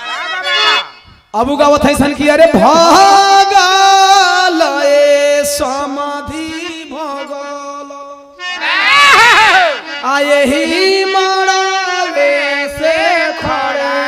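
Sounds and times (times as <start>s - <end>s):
man singing: 1.4s - 14.0s.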